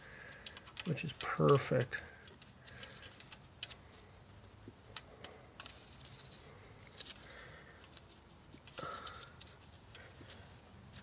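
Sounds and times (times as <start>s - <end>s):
faint metallic clicks and scrapes: 0.2s - 11.0s.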